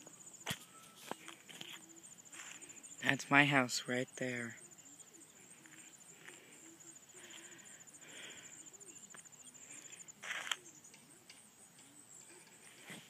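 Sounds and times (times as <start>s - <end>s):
faint outdoor ambience: 0.0s - 13.0s
insect high-pitched trill: 0.0s - 13.0s.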